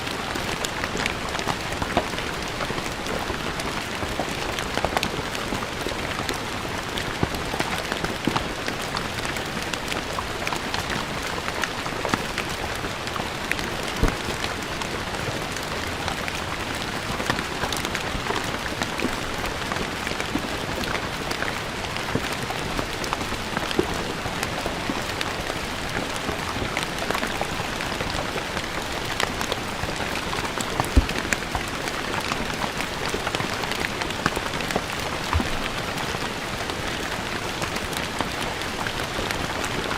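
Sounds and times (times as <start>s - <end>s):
rain on stone ground: 0.0s - 39.9s.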